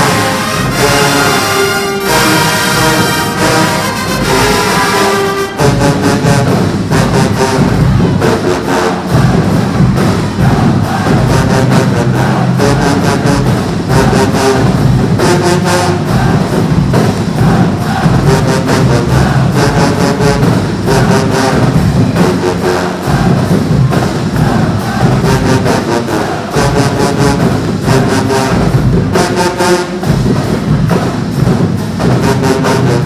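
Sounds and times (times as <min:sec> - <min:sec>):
marching band brass: 0:00.0 - 0:33.0
steady drum beat: 0:00.0 - 0:33.0.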